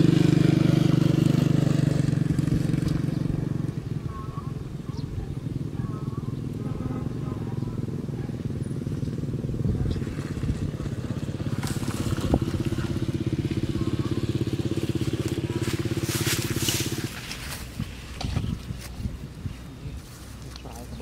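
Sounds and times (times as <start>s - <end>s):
small engine running: 0.0s - 18.7s.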